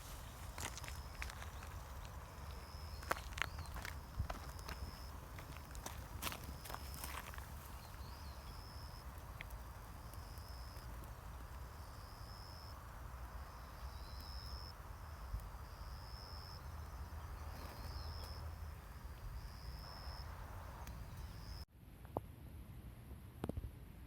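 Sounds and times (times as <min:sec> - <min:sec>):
insect chirping trill: 0:00.0 - 0:21.6.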